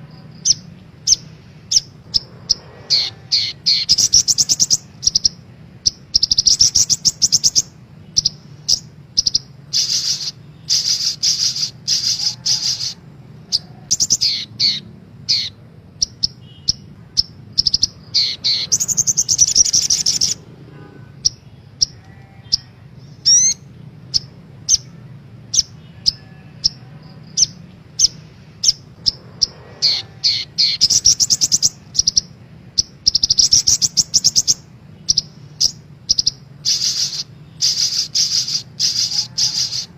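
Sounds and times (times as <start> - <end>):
faint low hum: 0.0 - 39.9
sunbird trilling and chirping: 0.0 - 39.9.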